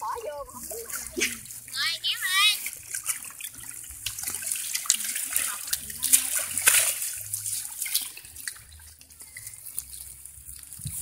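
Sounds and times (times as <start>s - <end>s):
water splashing and sloshing: 0.0s - 11.0s
water trickling: 0.0s - 11.0s.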